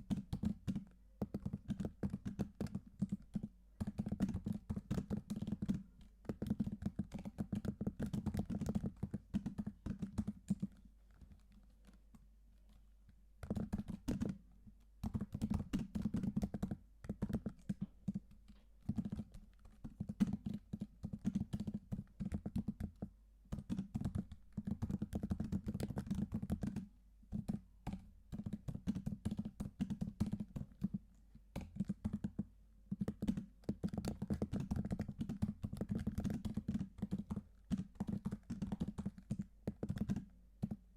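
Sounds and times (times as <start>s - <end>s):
computer keyboard typing: 0.0s - 12.0s, 13.4s - 14.4s, 15.0s - 31.0s, 31.6s - 40.8s.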